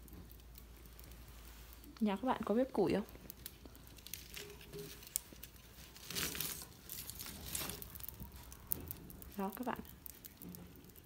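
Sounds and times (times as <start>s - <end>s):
firewood crackling and popping: 0.0s - 11.0s
rustling: 0.0s - 11.0s.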